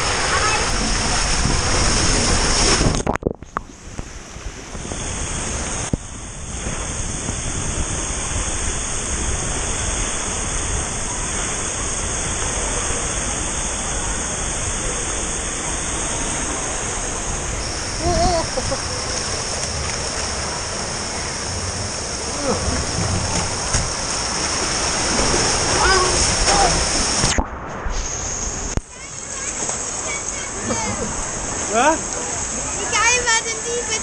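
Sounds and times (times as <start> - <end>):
water rushing down a slide: 0.0 - 34.0.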